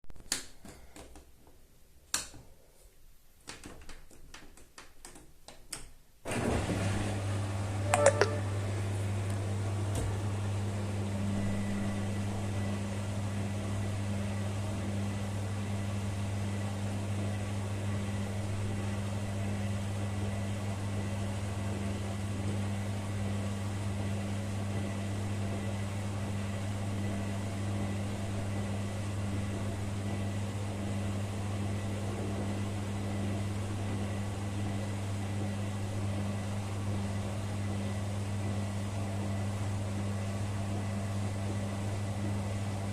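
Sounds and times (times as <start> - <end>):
washing machine humming: 6.2 - 42.9.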